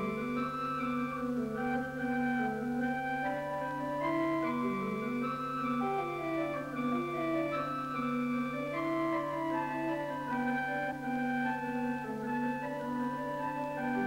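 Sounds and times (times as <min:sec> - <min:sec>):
pipe organ playing: 0:00.0 - 0:14.0.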